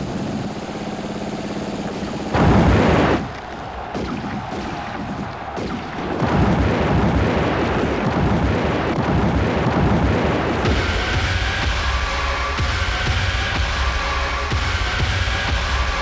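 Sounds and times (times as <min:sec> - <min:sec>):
low noisy rumble: 0:00.0 - 0:16.0.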